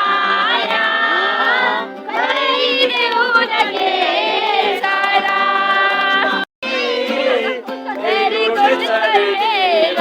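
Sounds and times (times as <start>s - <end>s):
song with singing voices: 0.0s - 10.0s.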